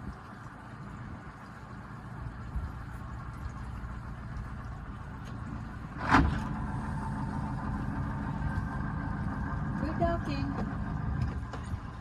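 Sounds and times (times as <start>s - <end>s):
boat motor running: 0.6s - 12.0s.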